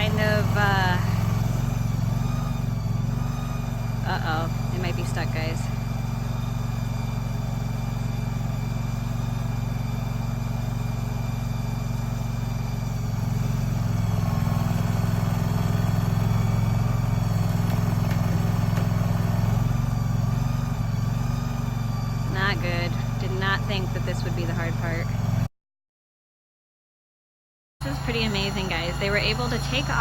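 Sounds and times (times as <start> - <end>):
tracked machine engine under load: 0.0 - 25.5, 27.8 - 30.0.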